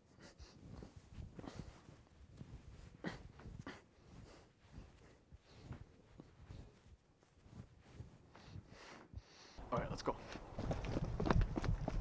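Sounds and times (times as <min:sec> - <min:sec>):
soft fabric rustles: 0:00.0 - 0:10.4.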